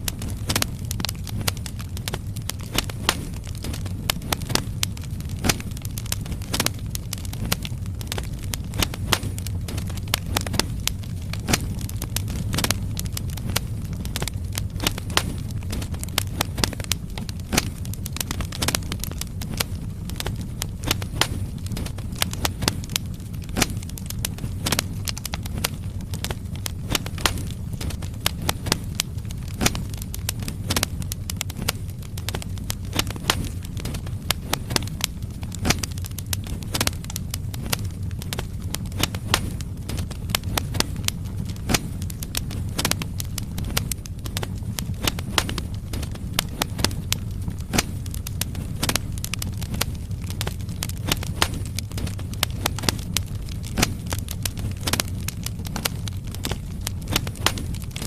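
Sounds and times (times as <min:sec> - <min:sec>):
fire low rumble: 0:00.0 - 0:58.0
firewood crackling and popping: 0:00.0 - 0:58.0.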